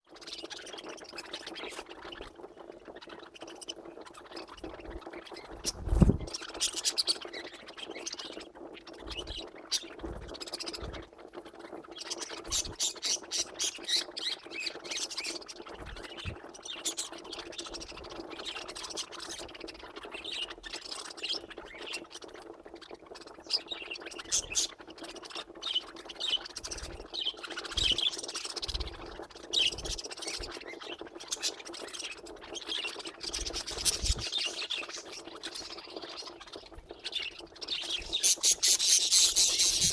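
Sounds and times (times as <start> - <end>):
budgies chirping and squawking: 0.1 - 39.9.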